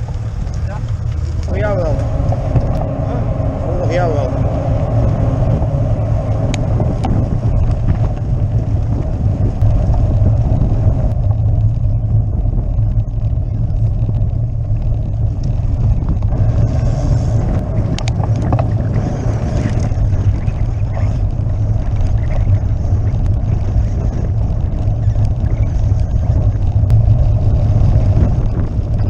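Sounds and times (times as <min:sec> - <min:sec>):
bicycle rattling over cobblestones: 0:00.0 - 0:29.0
wind buffeting microphone: 0:00.0 - 0:29.0.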